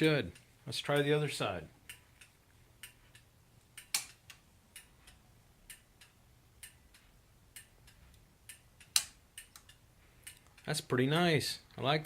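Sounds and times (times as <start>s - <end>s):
flasher relay clicking: 1.8s - 11.8s.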